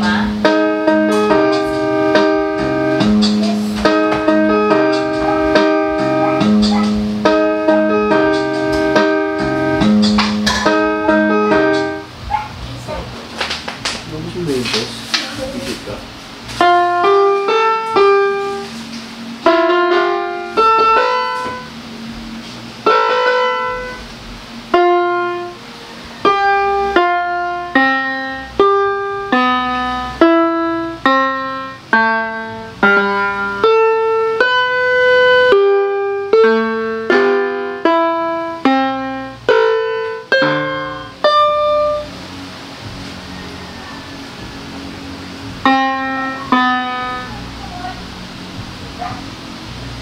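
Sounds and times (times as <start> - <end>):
electronic keyboard melody: 0.0 - 13.1, 13.8 - 50.0.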